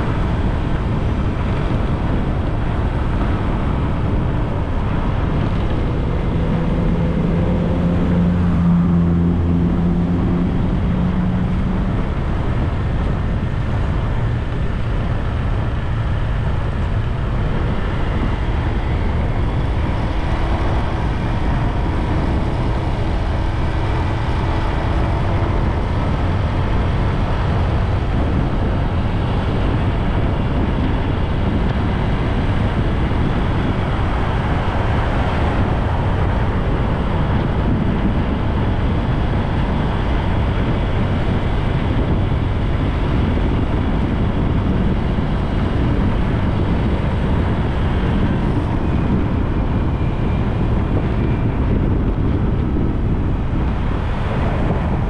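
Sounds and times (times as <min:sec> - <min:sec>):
engine hum: 0:00.0 - 0:55.0
wind and road rumble: 0:00.0 - 0:55.0.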